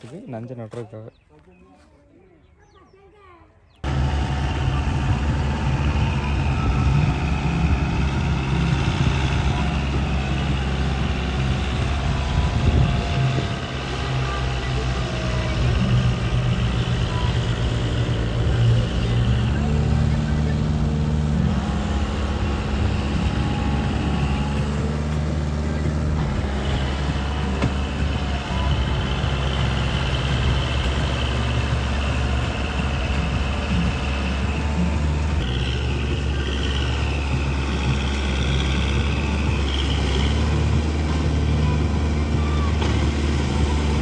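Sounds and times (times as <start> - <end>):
tractor diesel engine running: 3.8 - 44.0.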